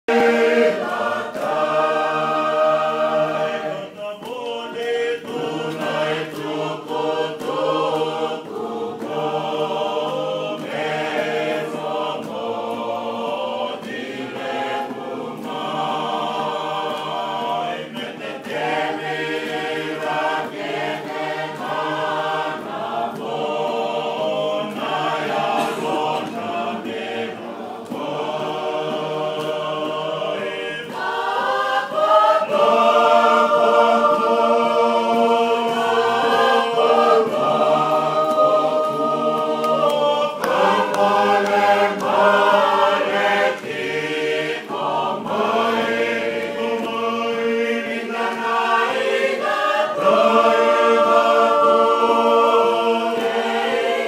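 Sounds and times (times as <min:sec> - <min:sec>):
group singing in harmony: 0:00.0 - 0:54.0.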